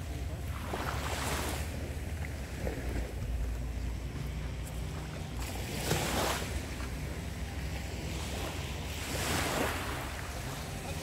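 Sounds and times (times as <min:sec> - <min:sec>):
small waves washing on shore: 0:00.0 - 0:11.0
wind rumble on microphone: 0:00.0 - 0:11.0.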